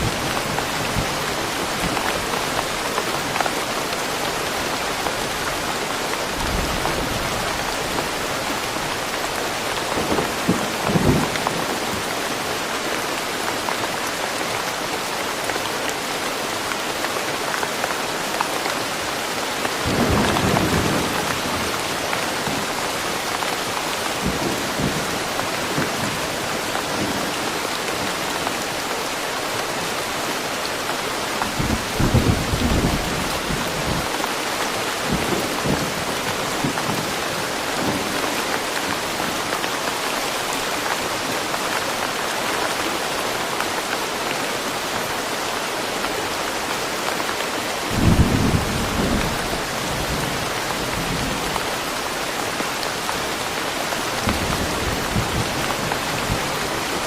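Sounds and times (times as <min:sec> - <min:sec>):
steady rain in woodland: 0:00.0 - 0:57.0.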